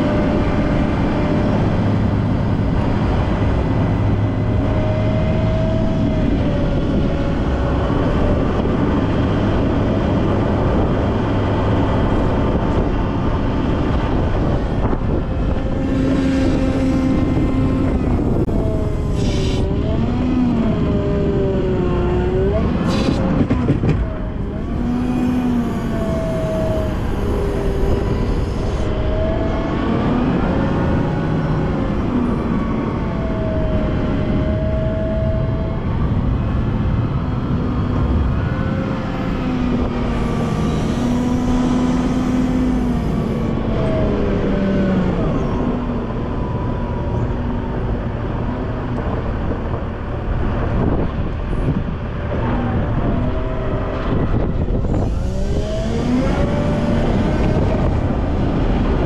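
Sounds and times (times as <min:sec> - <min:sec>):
wheel loader diesel engine revving: 0:00.0 - 0:59.0
whining tones: 0:00.0 - 0:59.0.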